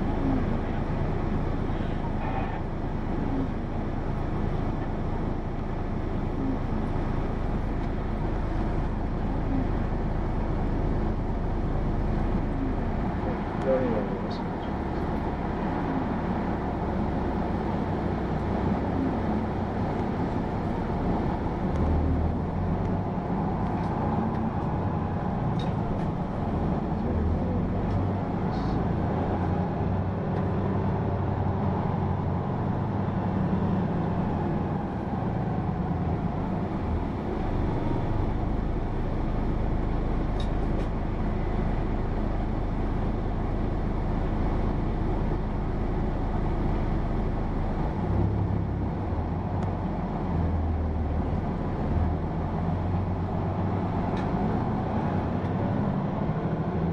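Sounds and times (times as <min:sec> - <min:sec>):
diesel bus engine: 0:00.0 - 0:56.9.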